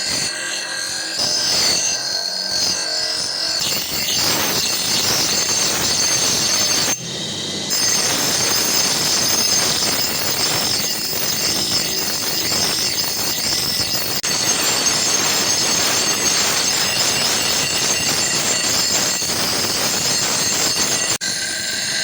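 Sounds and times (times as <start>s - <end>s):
grinder screeching on metal: 0.0s - 22.0s.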